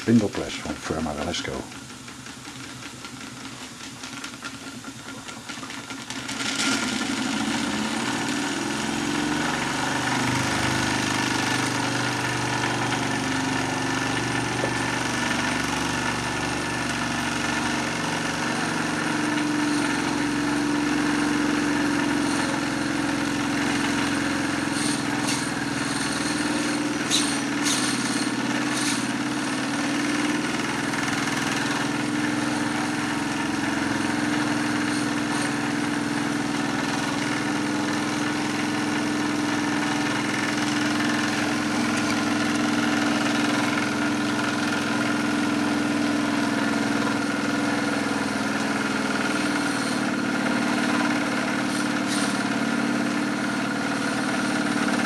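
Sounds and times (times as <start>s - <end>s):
mechanical hum of toy press: 0.0s - 55.0s.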